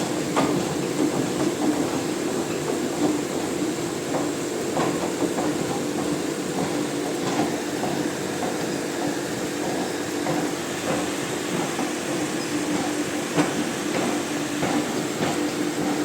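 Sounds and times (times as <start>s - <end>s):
machinery humming and rumbling: 0.0s - 16.0s.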